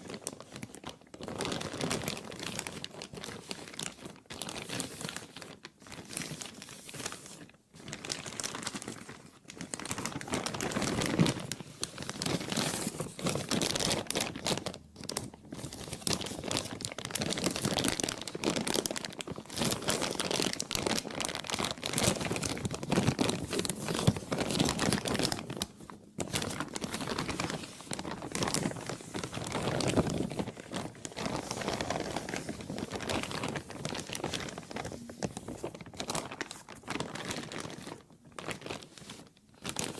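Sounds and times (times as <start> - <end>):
plastic crumpling: 0.0 - 39.9.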